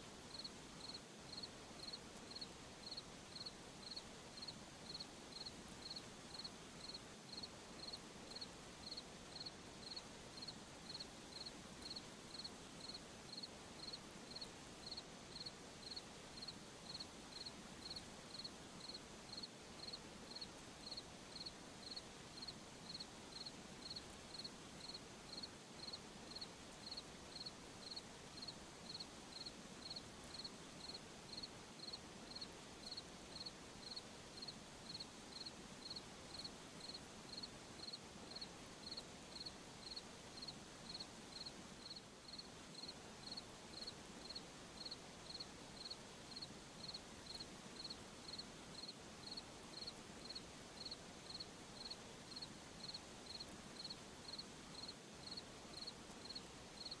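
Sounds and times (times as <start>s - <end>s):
faint hiss: 0.0s - 57.0s
cricket chirping: 0.3s - 57.0s.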